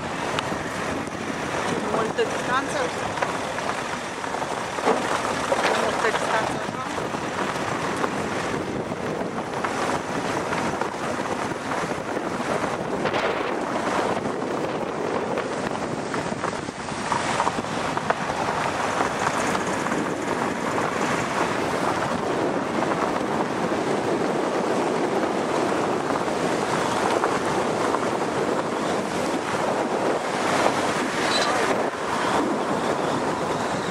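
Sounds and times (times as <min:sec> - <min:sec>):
car road noise: 0:00.0 - 0:33.9
wind buffeting microphone: 0:00.0 - 0:33.9.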